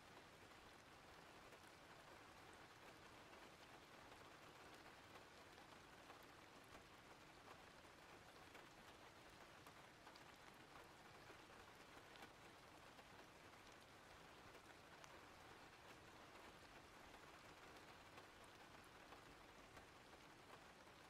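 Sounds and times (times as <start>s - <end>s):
raindrop ticks: 0.0s - 21.0s
steady rain hiss: 0.0s - 21.0s.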